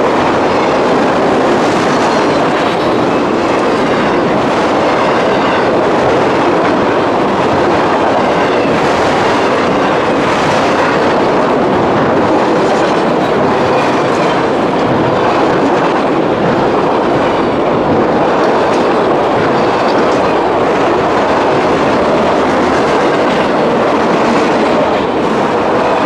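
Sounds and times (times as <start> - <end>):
freight train wheels clattering: 0.0 - 26.0.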